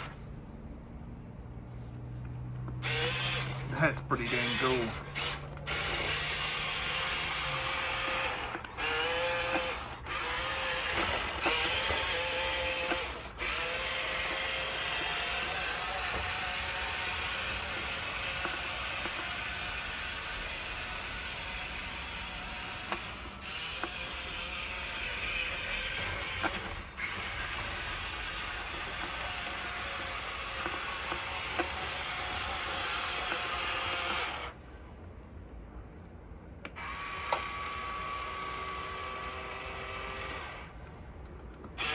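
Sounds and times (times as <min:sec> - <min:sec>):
toy truck motor whirring: 0:00.0 - 0:00.3, 0:02.7 - 0:34.6, 0:36.6 - 0:40.8, 0:41.7 - 0:41.9.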